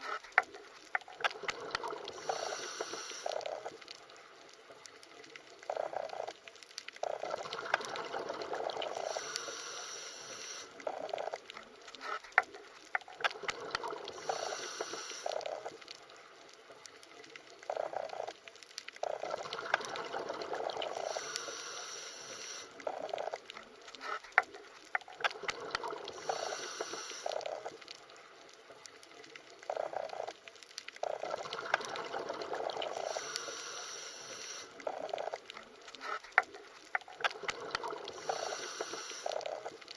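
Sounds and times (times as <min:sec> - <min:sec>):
underwater bubbling and gurgling: 0:00.0 - 0:39.9.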